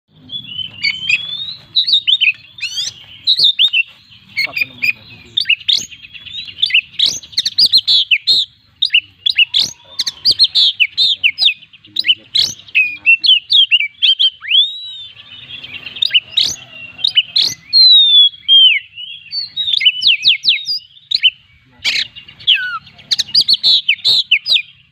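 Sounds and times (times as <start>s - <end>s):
songbird whistling and trilling: 0.1s - 24.9s.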